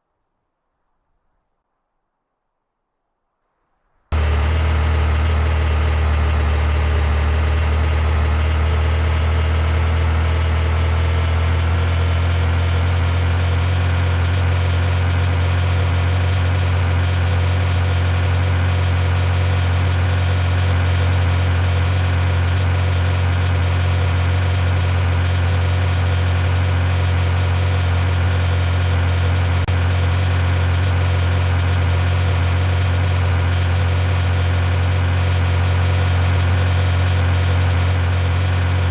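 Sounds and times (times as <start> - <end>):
vehicle engine idling: 4.2 - 38.9.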